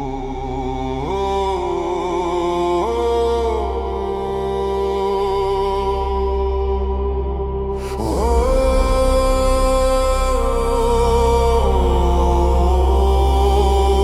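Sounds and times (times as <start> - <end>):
low drone: 0.0 - 14.0
wordless chanting voices: 0.0 - 14.0.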